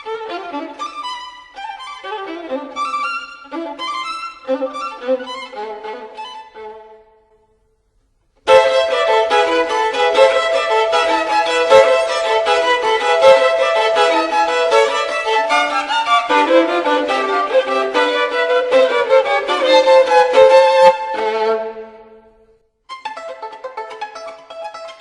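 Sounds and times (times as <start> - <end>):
violin music: 0.0 - 7.5, 8.4 - 25.0.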